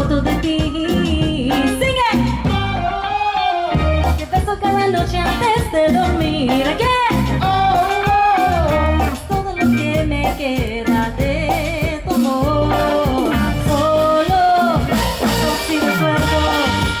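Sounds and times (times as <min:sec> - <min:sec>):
bass line: 0:00.0 - 0:17.0
live cumbia band: 0:00.0 - 0:17.0
person singing: 0:00.0 - 0:17.0.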